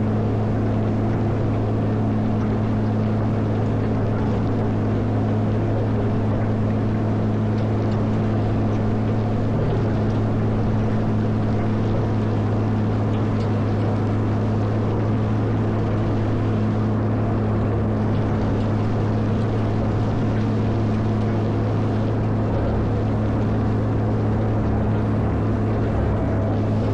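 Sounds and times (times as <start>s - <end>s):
diesel engine droning: 0.0s - 26.9s.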